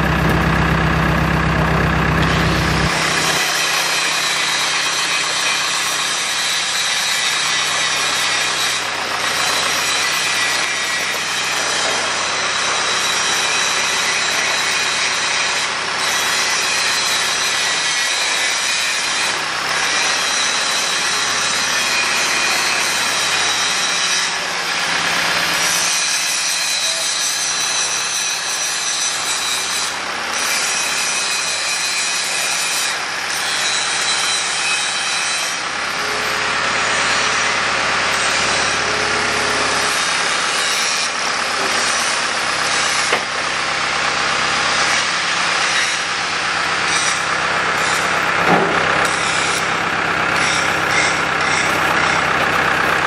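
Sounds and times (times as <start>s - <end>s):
crane hoist whining and grinding: 0.0s - 53.0s.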